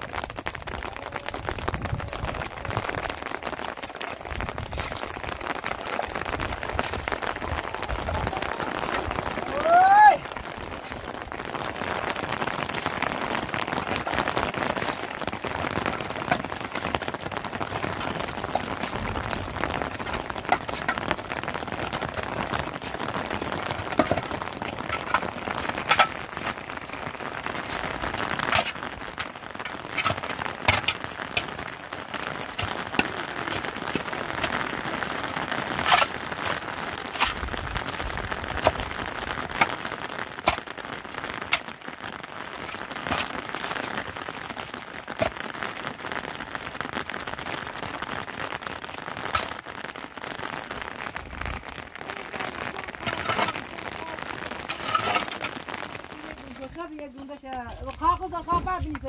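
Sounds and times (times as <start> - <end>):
rain pattering on a plastic sheet: 0.0 - 59.0.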